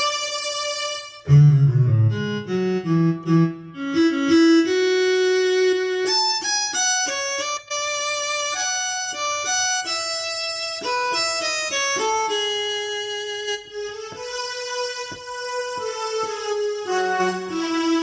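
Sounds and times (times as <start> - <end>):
keyboard violin melody: 0.0 - 18.0.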